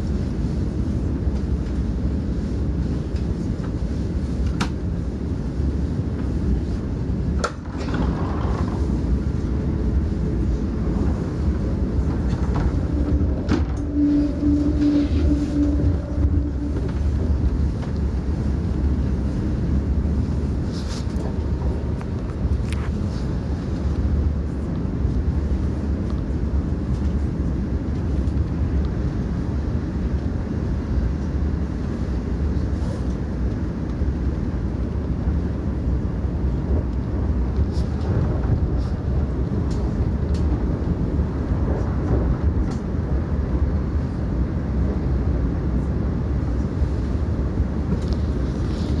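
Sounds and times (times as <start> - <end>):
train rumbling at speed: 0.0 - 49.0.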